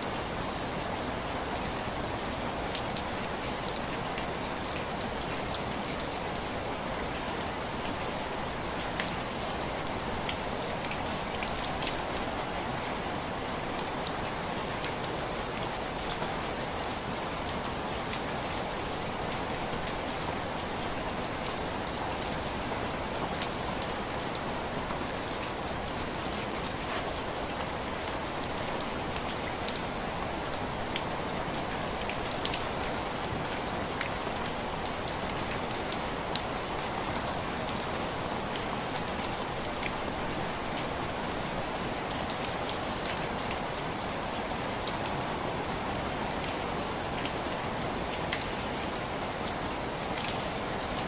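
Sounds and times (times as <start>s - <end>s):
rain: 0.0s - 51.0s.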